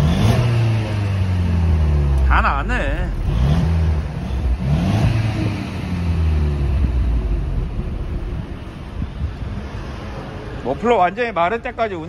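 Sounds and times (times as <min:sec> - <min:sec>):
car engine revving exhaust: 0:00.0 - 0:10.6.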